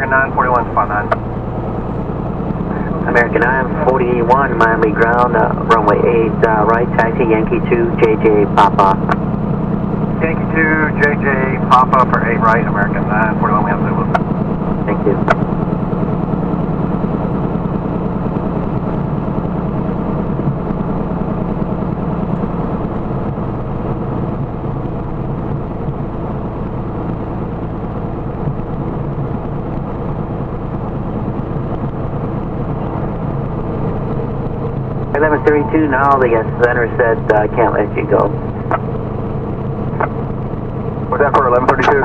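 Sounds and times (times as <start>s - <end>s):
aircraft engine and propeller running: 0.0s - 42.0s.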